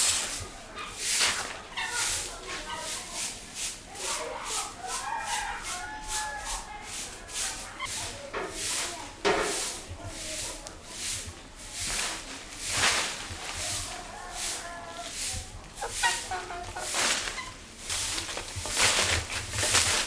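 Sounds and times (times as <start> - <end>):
broom sweeping: 0.0 - 20.0
chickens clucking: 0.0 - 20.0.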